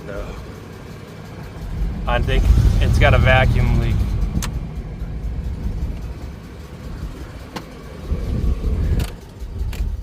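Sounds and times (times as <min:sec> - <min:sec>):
truck engine idling unevenly: 0:00.0 - 0:10.0.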